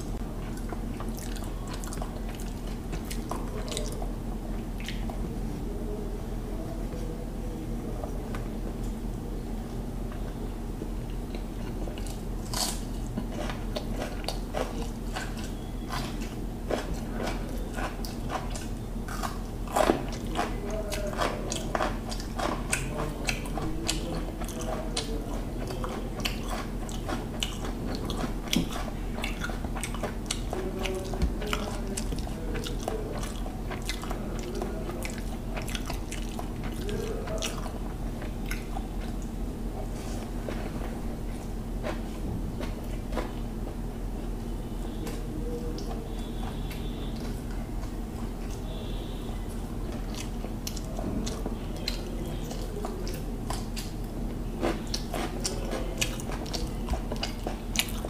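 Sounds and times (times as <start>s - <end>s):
man chewing food: 0.0s - 5.3s, 9.6s - 58.0s
steady low hum: 0.0s - 58.0s.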